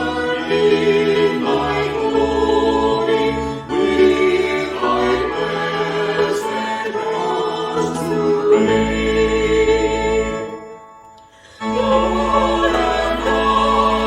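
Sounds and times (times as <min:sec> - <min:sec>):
choir singing church music: 0:00.0 - 0:14.0.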